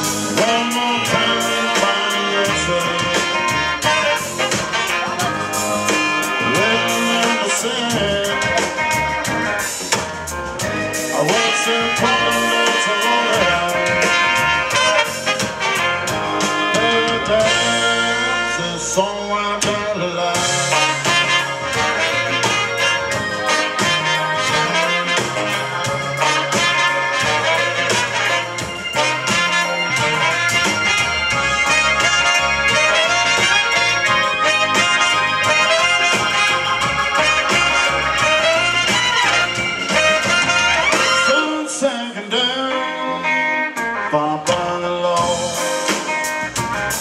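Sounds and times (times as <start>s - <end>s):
steady drum beat: 0.0s - 41.4s, 44.5s - 47.0s
electric guitar: 0.0s - 47.0s
live blues band playing: 0.0s - 47.0s
trumpet and saxophone: 0.0s - 47.0s.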